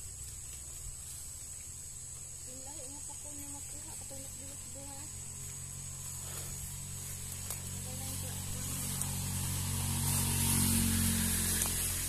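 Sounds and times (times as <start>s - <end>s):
leaves and grass rustling: 0.0s - 12.0s.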